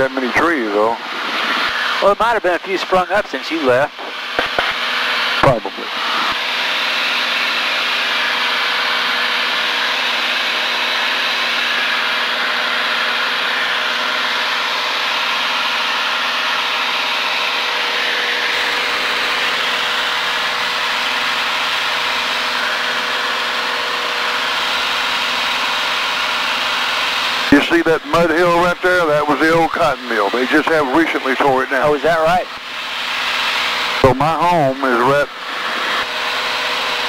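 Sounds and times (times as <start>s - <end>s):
light airplane engine droning: 0.0s - 37.0s.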